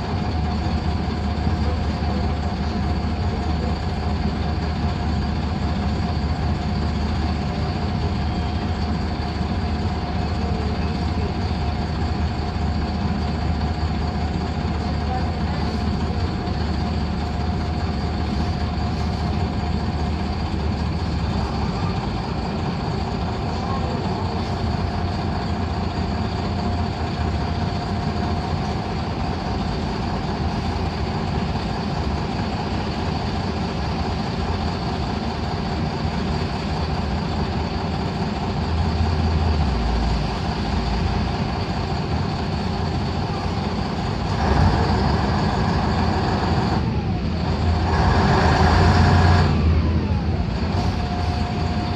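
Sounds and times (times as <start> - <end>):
diesel bus engine running: 0.0 - 51.9
road and cabin rumble: 0.0 - 51.9.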